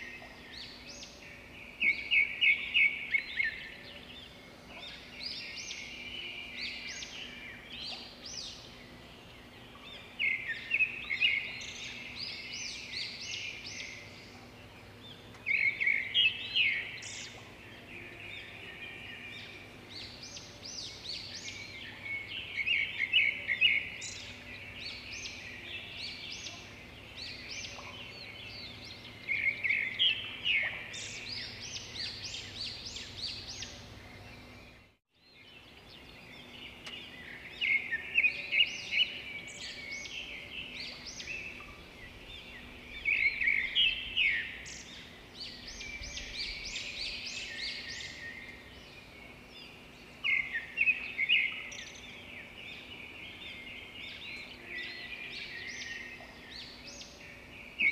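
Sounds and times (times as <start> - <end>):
birds chirping and calling: 0.0 - 34.9, 35.5 - 57.9.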